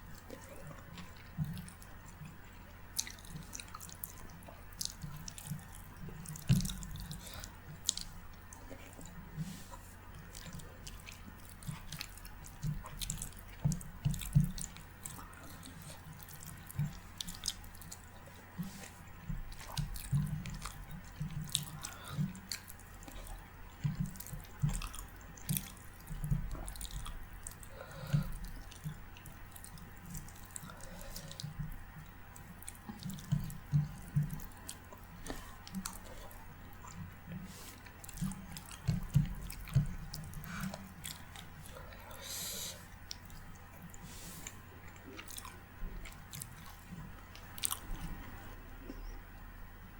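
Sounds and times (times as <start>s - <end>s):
wet chewing and mouth sounds: 0.0s - 49.6s.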